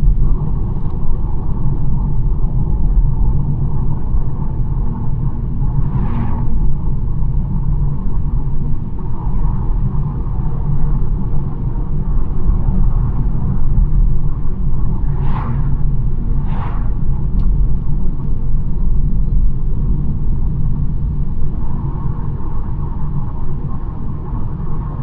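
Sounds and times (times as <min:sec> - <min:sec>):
car tyres and engine rumble: 0:00.0 - 0:25.0.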